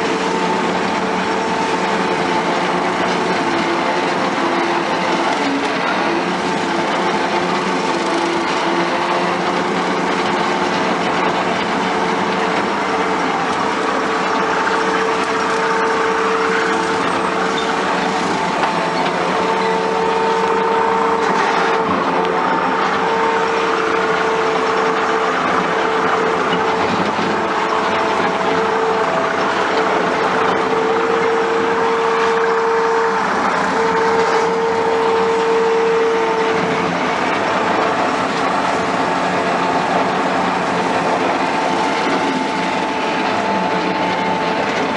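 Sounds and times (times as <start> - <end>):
hydraulic mower whine: 0.0 - 44.9
skid steer engine running: 0.0 - 44.9.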